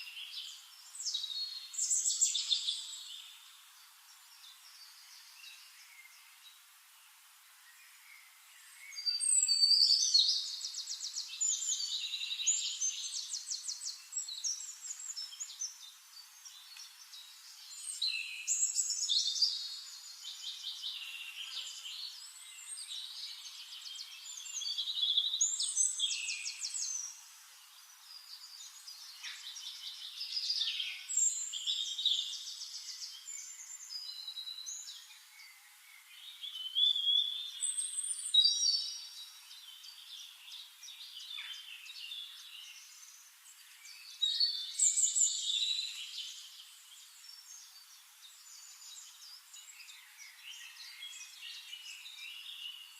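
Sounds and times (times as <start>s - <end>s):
songbird singing trills: 0.0s - 6.6s, 7.6s - 52.9s.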